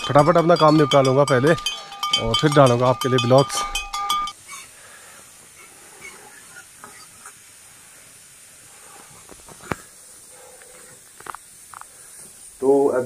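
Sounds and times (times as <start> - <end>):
food sizzling in pan: 0.0 - 13.0.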